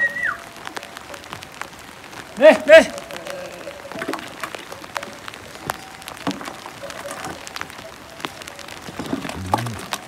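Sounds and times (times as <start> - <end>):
raindrops ticking on surfaces: 0.0 - 10.0
steady rain: 0.0 - 10.0.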